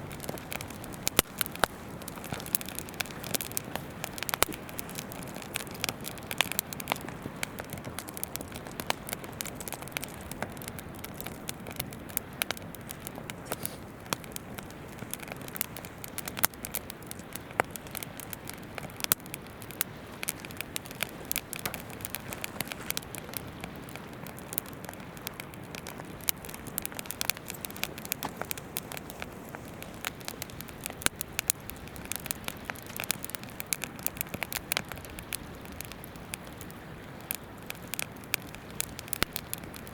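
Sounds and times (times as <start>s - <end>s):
river babbling: 0.0s - 34.3s
campfire crackling and popping: 0.0s - 39.9s.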